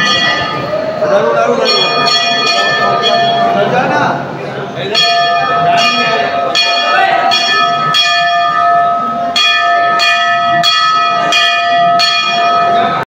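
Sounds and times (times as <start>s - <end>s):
temple bell ringing: 0.0s - 13.0s.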